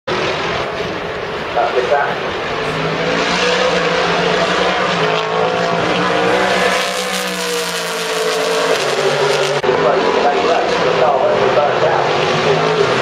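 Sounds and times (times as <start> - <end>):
race car engine at high revs: 0.1 - 13.0.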